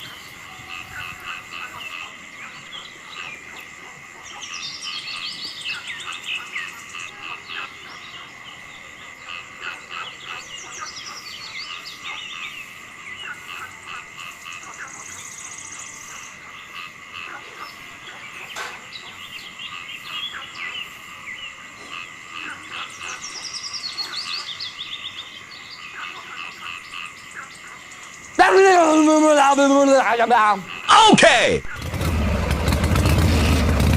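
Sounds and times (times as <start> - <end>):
frog croaks and chirps: 0.0 - 31.8
high insect drone: 0.0 - 32.4.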